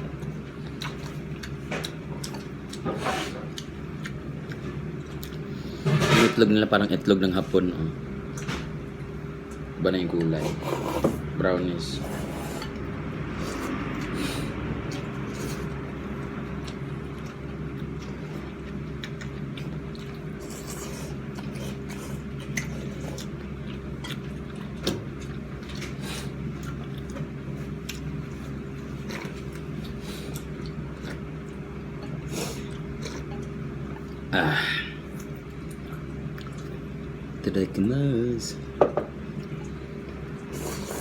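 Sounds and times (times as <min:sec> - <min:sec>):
low equipment hum: 0:00.0 - 0:41.0.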